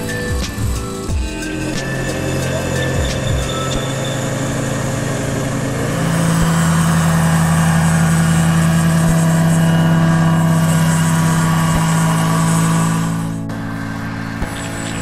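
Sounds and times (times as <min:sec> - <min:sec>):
model helicopter whirring: 0:00.0 - 0:15.0.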